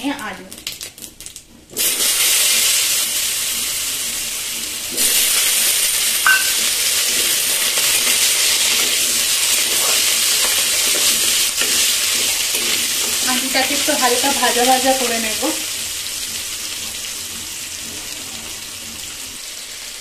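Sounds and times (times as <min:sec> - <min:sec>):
potatoes sizzling in hot oil: 0:00.0 - 0:20.0.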